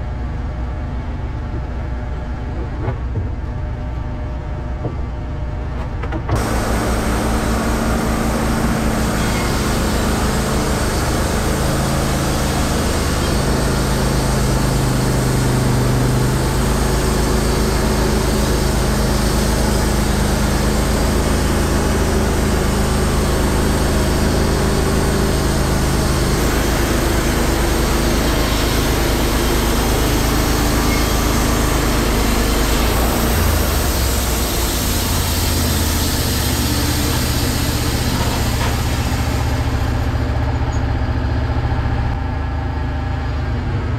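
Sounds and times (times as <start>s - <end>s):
band sawmill cutting log: 6.2s - 42.1s.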